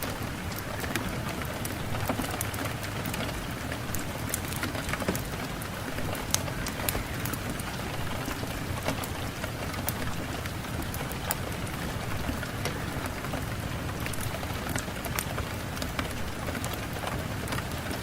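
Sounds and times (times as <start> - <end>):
rain pattering on hard surface: 0.0 - 18.0.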